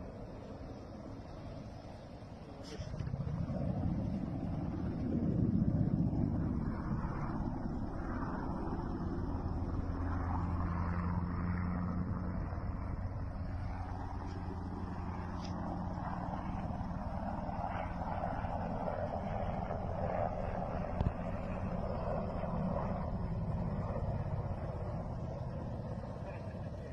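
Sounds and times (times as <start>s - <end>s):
vehicle engine droning: 0.0s - 26.9s.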